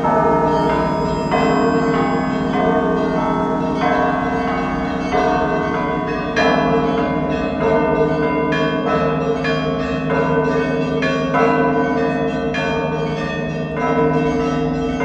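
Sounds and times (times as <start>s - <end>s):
church bells ringing in a peal: 0.0s - 15.0s
hum of large bells: 0.0s - 15.0s.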